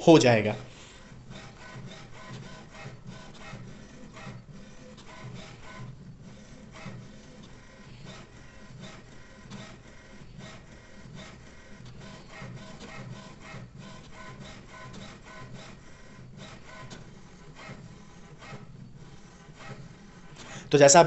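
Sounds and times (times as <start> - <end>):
inkjet printer printing: 0.0 - 21.0.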